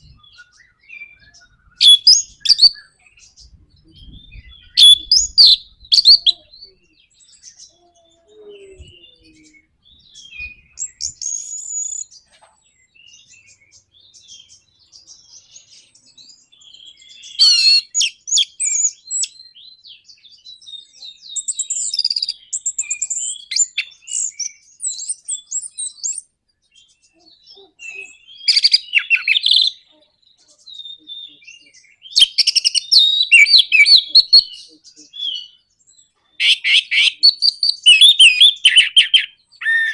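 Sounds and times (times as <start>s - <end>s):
thrush singing whistles and chatter: 0.0s - 39.9s.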